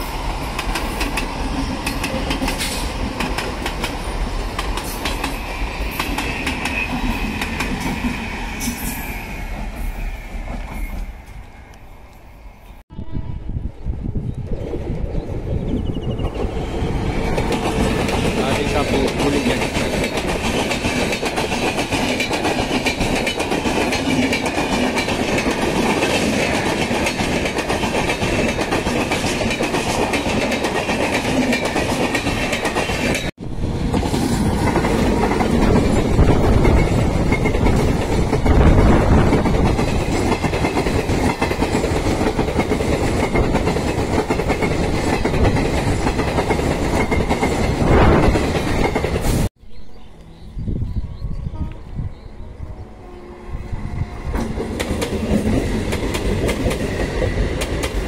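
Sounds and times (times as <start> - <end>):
train wheels clattering over rails: 0.0 - 11.4, 16.1 - 49.5, 54.3 - 58.0.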